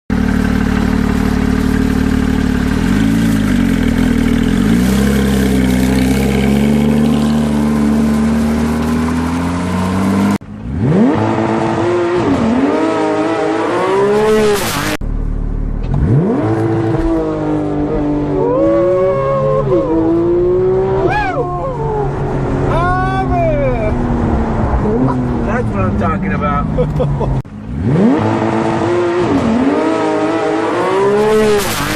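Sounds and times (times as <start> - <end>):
sports car engine revving: 0.1 - 31.9
car accelerating hard: 0.3 - 15.0, 15.8 - 31.9.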